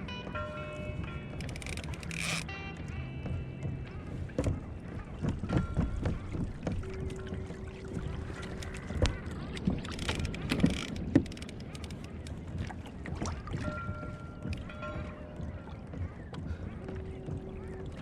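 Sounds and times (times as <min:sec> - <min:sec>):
water moving around hull: 0:00.0 - 0:18.0.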